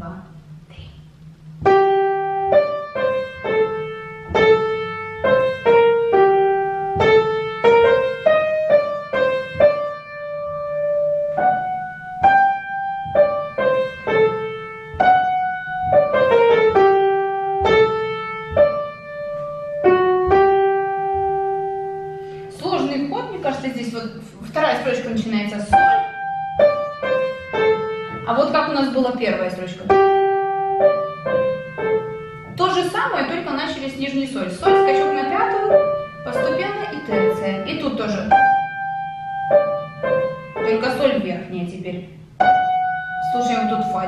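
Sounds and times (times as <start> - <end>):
piano melody: 0.0 - 44.0.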